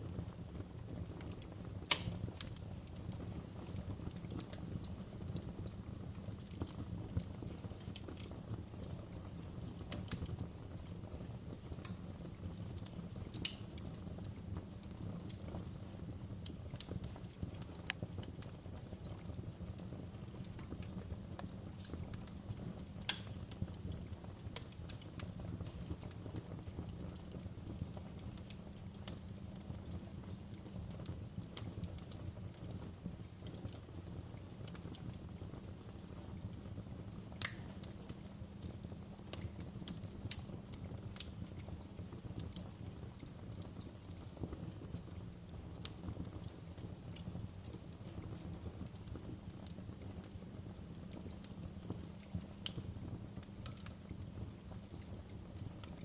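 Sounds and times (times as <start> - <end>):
fire pops and snaps: 0.0 - 56.0
wood fire crackling: 0.0 - 56.0.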